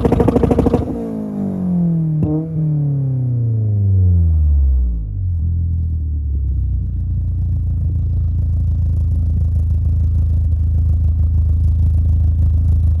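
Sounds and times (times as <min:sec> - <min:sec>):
car engine idling: 0:00.0 - 0:04.4, 0:05.0 - 0:13.0.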